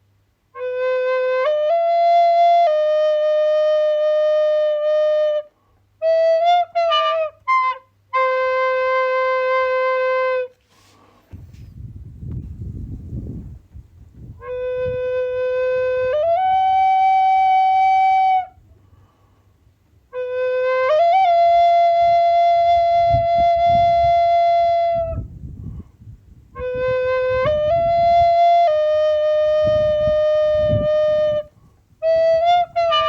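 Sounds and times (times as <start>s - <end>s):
flute-like wind instrument: 0.5s - 10.7s, 14.2s - 18.7s, 20.1s - 33.0s.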